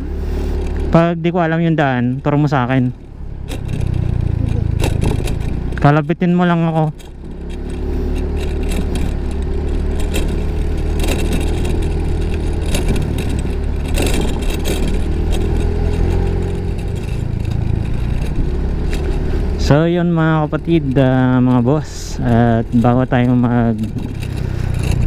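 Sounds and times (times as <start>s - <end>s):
scooter engine running: 0.0s - 25.0s.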